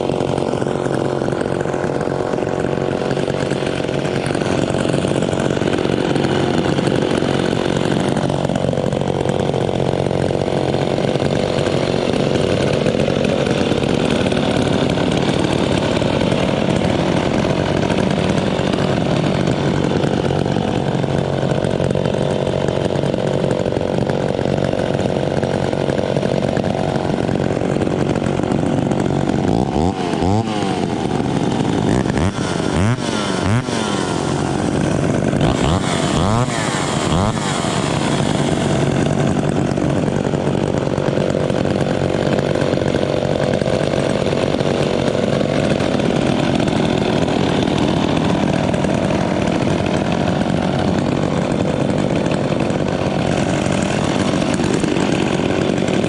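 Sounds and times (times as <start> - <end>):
chainsaw engines revving: 0.0 - 56.0
chainsaws running: 0.0 - 56.0.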